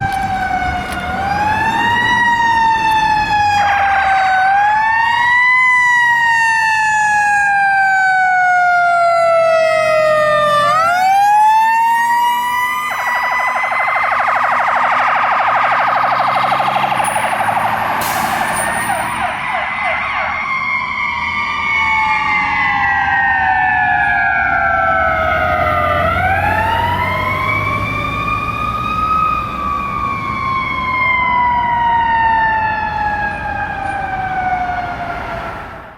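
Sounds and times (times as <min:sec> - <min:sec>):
siren wailing: 0:00.0 - 0:35.9.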